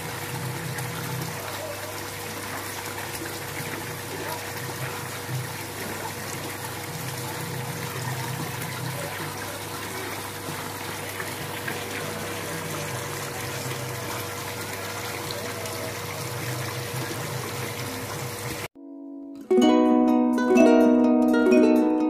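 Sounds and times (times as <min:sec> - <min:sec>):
water splashing into pool: 0:00.0 - 0:18.7.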